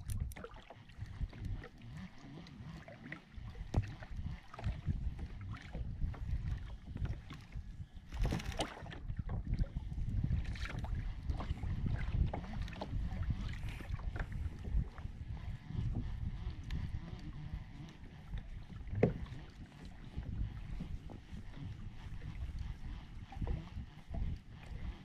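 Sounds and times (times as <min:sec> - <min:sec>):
small waves slapping hull: 0:00.0 - 0:25.0
wind rumble on microphone: 0:00.0 - 0:25.0.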